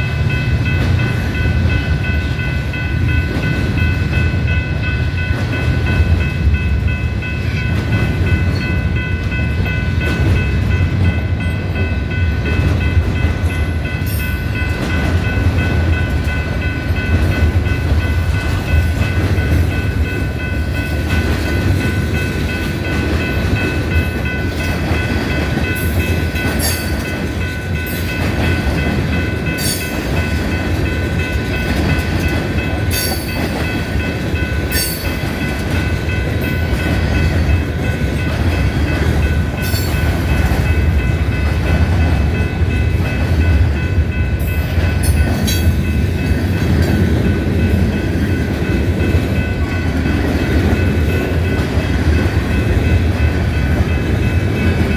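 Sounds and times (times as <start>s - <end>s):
train cars rumbling on rails: 0.0s - 54.9s.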